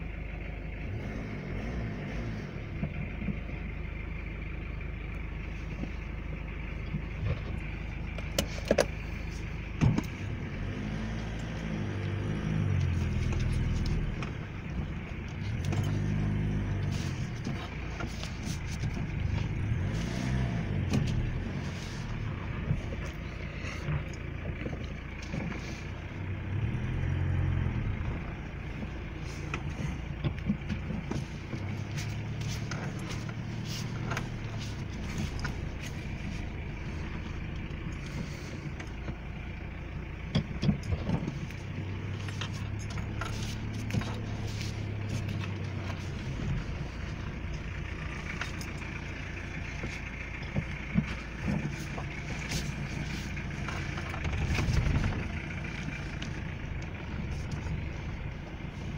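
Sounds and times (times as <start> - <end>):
diesel car engine running: 0.0 - 58.9.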